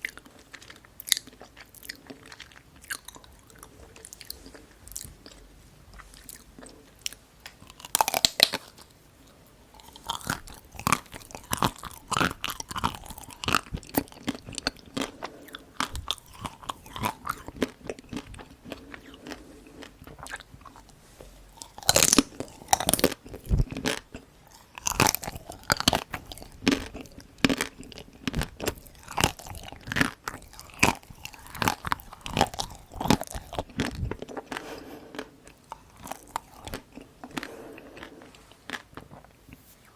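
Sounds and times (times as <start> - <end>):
crunchy biting and chewing: 0.0 - 5.4, 6.0 - 8.9, 9.7 - 39.4.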